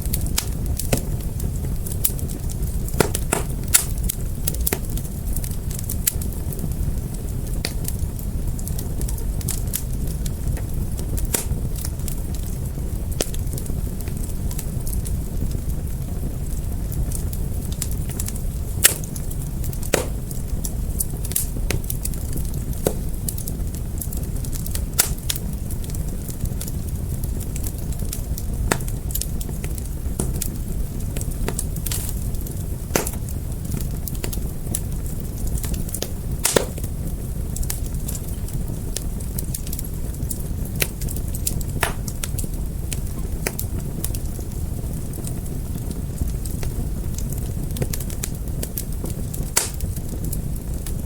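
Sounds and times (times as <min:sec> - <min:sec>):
fire crackling: 0:00.0 - 0:51.0
fire rumbling: 0:00.0 - 0:51.0.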